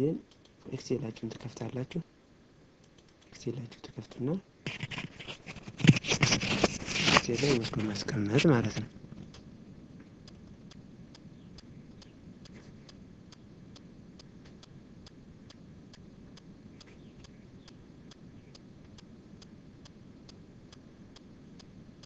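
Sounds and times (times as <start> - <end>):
low steady background hiss: 0.0 - 22.0.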